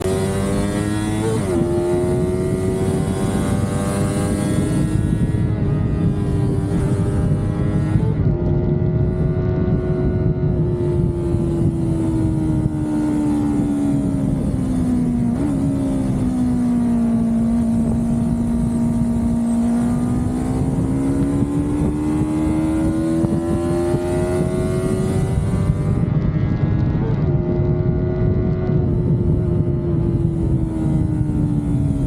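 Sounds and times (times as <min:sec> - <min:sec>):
car engine: 0:00.0 - 0:32.0
road and wind rumble: 0:00.0 - 0:32.0.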